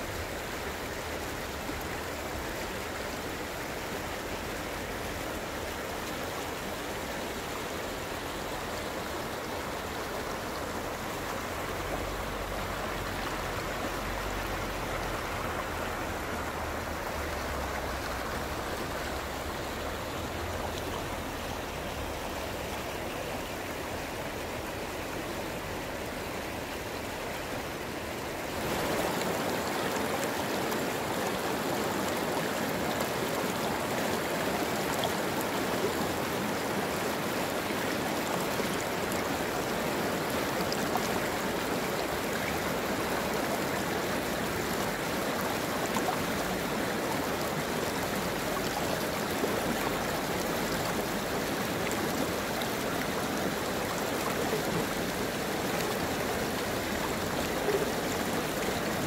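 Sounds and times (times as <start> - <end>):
stream rippling over rocks: 0.0 - 59.0.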